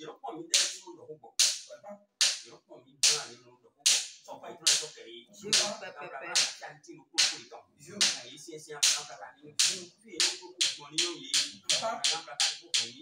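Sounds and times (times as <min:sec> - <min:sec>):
man speaking: 0:00.0 - 0:13.0
hand claps ringing off tiles: 0:00.5 - 0:00.8, 0:01.4 - 0:06.6, 0:07.2 - 0:07.4, 0:08.0 - 0:13.0.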